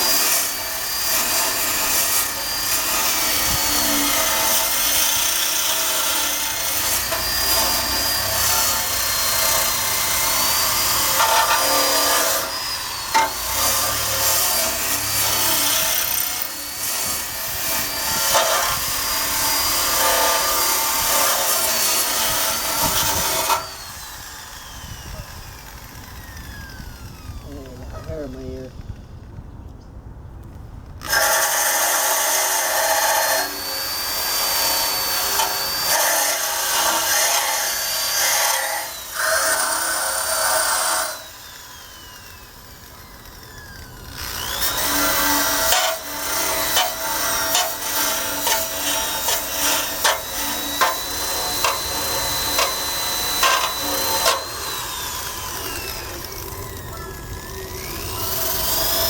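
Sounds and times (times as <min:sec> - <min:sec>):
power drill wire brush on steel: 0:00.0 - 0:28.8, 0:31.0 - 0:59.0.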